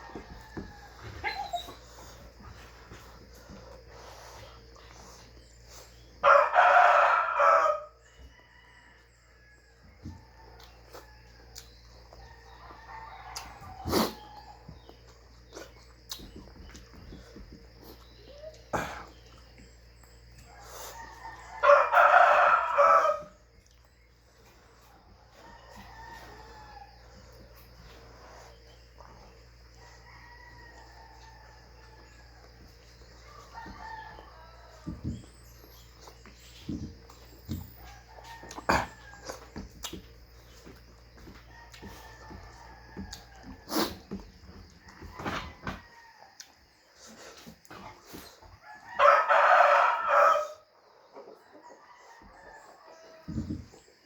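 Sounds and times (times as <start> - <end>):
distant roosters crowing: 0.0 - 54.0.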